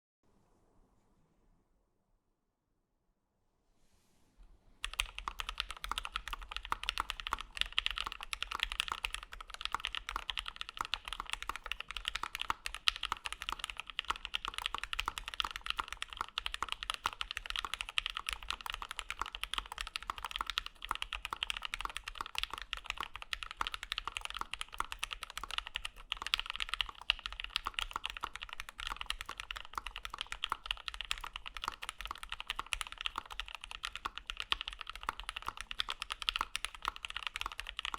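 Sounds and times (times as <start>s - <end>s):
fast mechanical keyboard typing: 4.8s - 37.9s.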